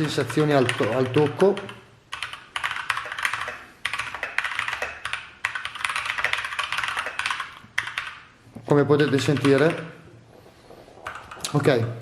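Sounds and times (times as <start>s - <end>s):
mechanical keyboard typing: 0.0s - 8.2s, 9.0s - 9.9s, 11.0s - 11.6s.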